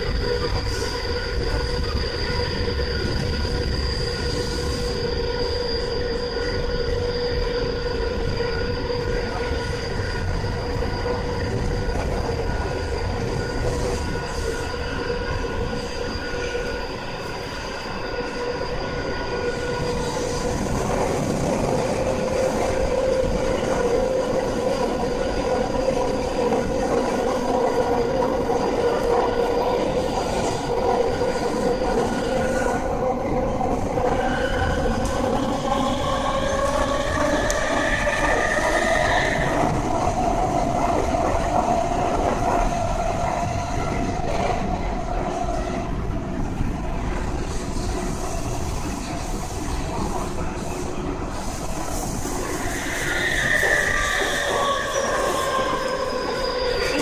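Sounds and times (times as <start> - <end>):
wheel and rail noise: 0.0 - 57.0.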